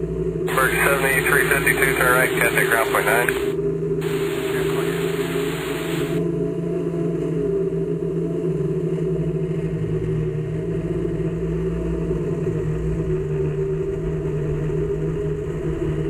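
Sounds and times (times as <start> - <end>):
low engine-like drone: 0.0 - 16.0.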